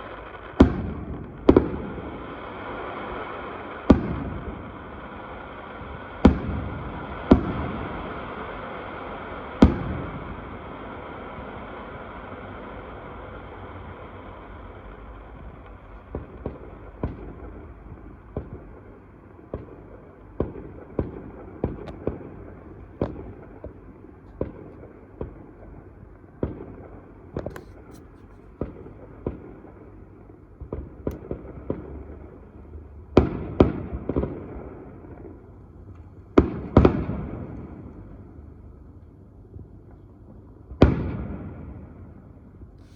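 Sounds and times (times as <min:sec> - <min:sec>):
fireworks bangs: 0:00.0 - 0:29.9, 0:30.6 - 0:35.4, 0:36.3 - 0:38.1, 0:40.7 - 0:42.9
steady background hiss: 0:00.0 - 0:42.9.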